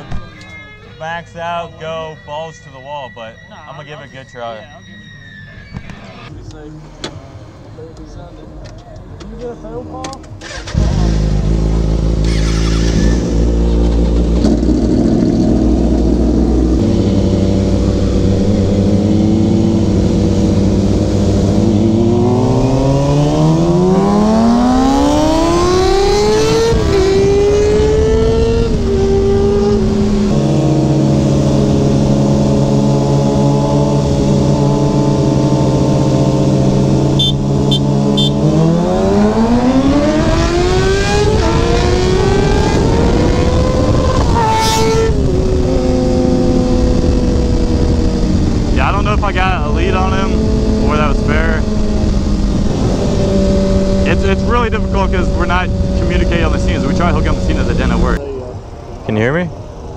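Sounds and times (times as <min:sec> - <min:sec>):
motorcycle engine revving: 0:10.2 - 0:58.2.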